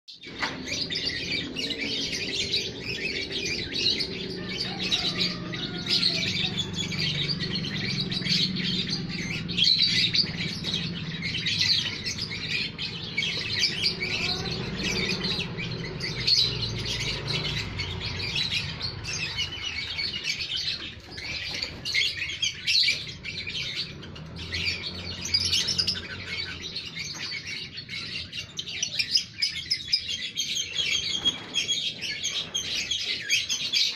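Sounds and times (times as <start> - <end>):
lovebirds chirping: 0.1 - 33.9.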